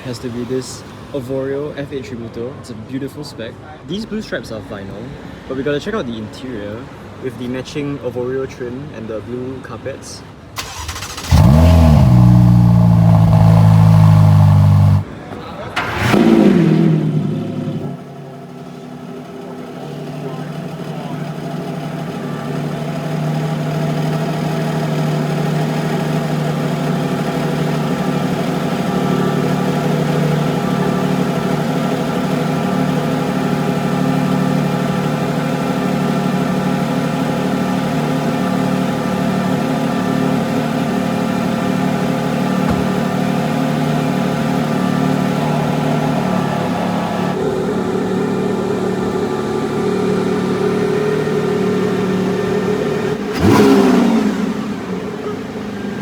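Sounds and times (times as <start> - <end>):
car engine idling: 10.6 - 56.0.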